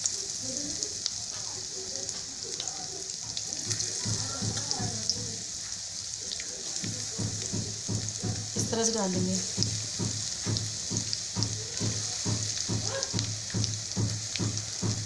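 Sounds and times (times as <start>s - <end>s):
deep-frying sizzle: 0.0s - 15.0s
oil crackles and pops: 0.0s - 15.0s.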